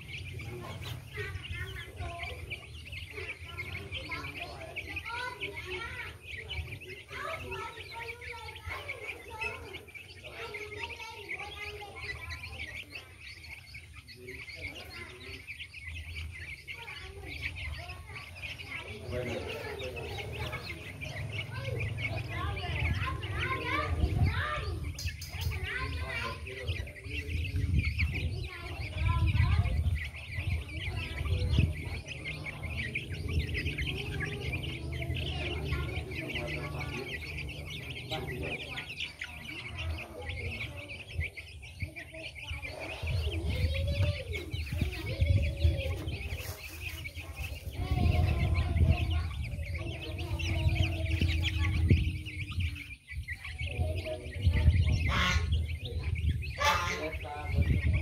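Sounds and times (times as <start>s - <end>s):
chicks cheeping: 0.0s - 58.0s
lower bird calls: 0.0s - 58.0s.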